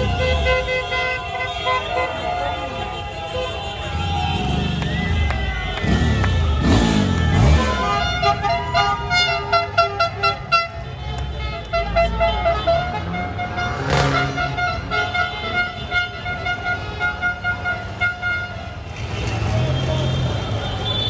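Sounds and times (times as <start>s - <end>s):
vehicle horns honking: 0.0s - 21.0s.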